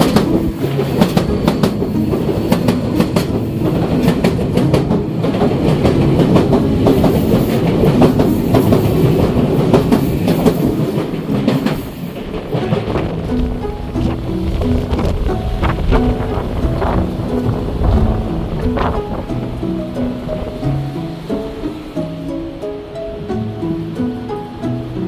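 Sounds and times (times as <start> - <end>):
electric train passing: 0.0 - 25.0
wheels clacking over rail joints: 0.0 - 25.0.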